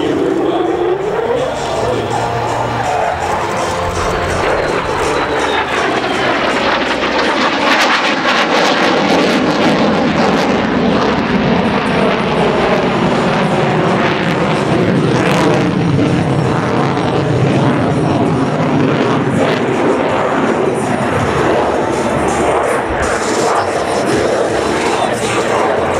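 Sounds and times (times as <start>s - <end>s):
jet engine roaring: 0.0s - 25.9s.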